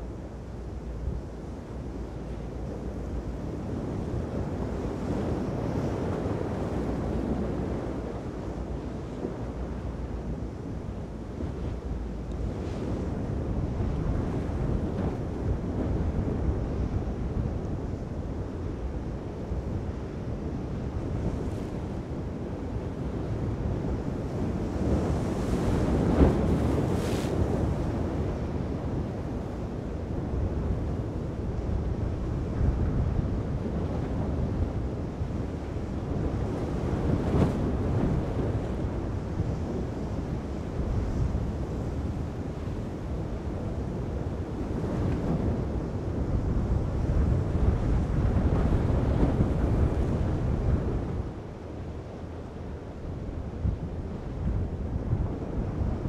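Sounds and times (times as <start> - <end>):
choppy sea and breaking surf: 0.0 - 56.0
wind buffeting microphone: 0.0 - 56.0.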